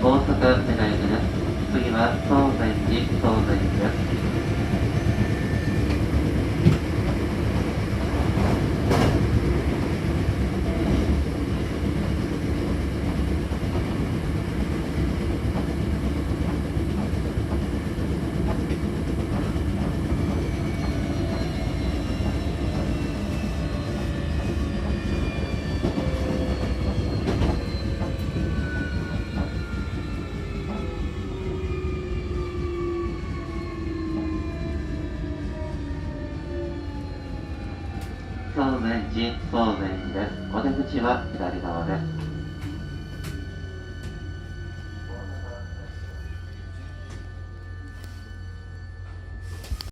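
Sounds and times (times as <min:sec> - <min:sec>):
train rumble: 0:00.0 - 0:49.9.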